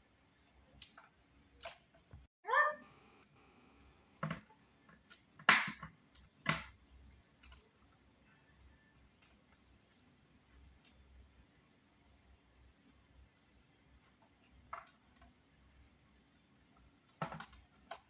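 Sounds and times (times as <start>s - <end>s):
high-pitched insect trill: 0.0s - 17.8s.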